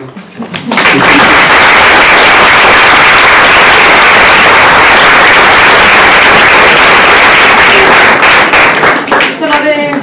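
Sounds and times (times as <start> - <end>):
audience applauding: 0.5 - 10.0.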